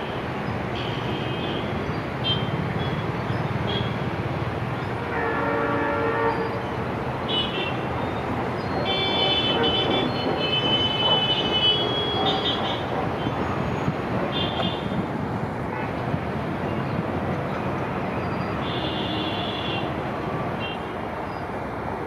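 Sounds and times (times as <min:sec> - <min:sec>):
train passing on track: 0:00.0 - 0:22.0.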